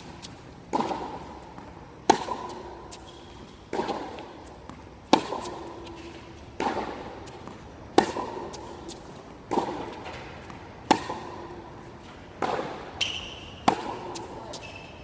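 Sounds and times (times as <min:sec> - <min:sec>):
tennis balls struck by racquets: 0:00.0 - 0:14.8.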